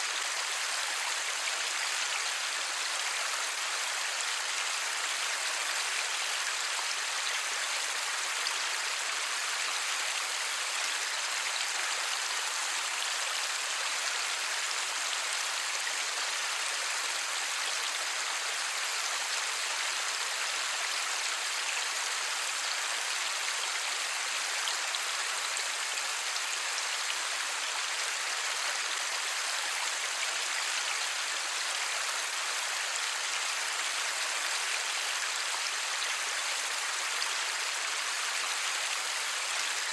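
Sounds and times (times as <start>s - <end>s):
steady light rain: 0.0s - 39.9s.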